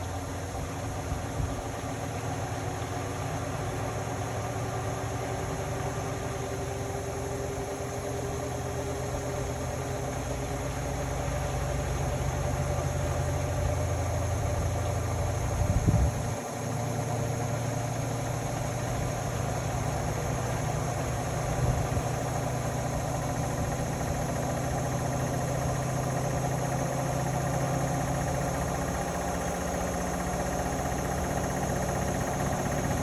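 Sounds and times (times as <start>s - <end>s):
washing machine running: 3.0s - 33.0s.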